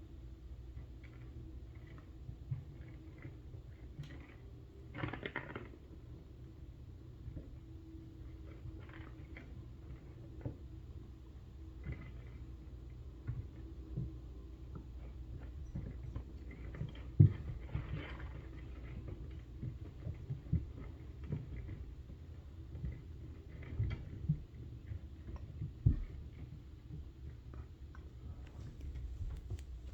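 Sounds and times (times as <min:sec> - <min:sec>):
faint low hum: 0:00.0 - 0:29.9.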